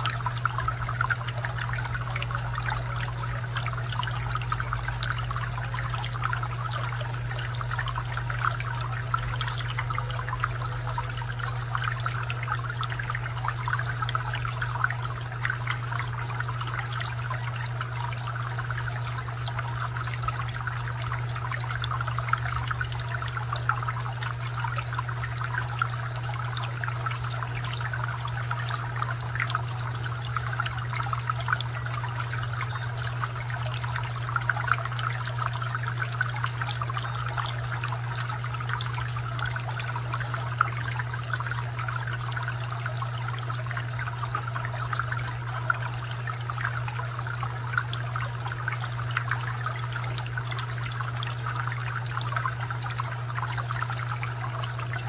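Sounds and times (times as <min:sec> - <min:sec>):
fountain water trickling: 0:00.0 - 0:55.0
steady low hum: 0:00.0 - 0:55.0.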